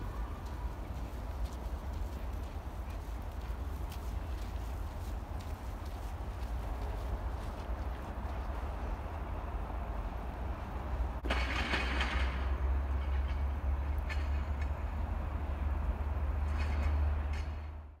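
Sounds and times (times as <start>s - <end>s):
low city rumble: 0.0s - 18.0s.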